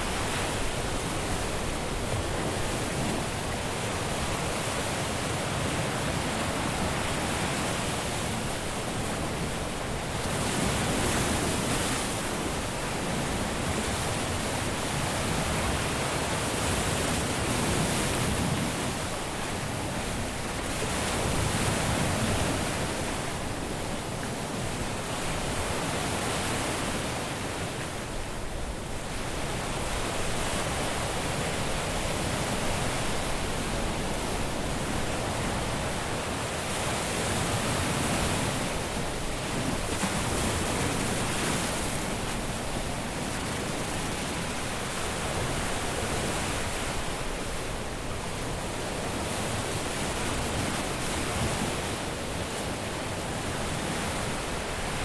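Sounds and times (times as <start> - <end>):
sea surf breaking on beach: 0.0 - 55.0.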